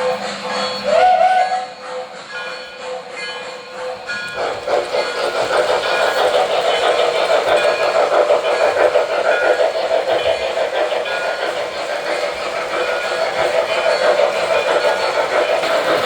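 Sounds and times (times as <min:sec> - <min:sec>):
model train wheels rumbling on track: 0:00.0 - 0:16.0.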